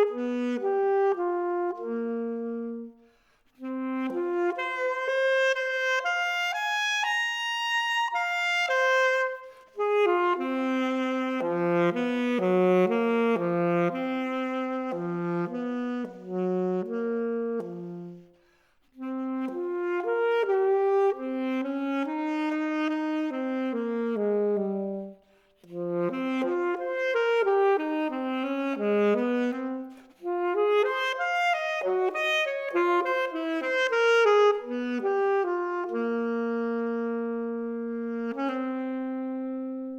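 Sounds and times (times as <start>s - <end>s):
solo saxophone jazz line: 0.0s - 39.9s.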